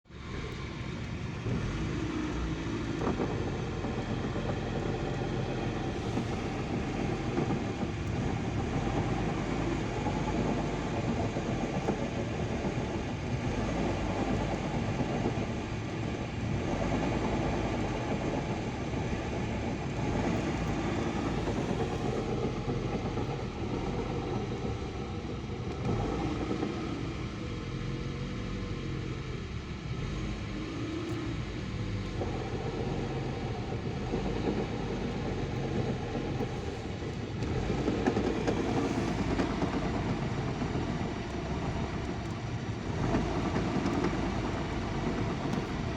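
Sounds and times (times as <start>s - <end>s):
car running with steady hum: 0.0s - 45.9s.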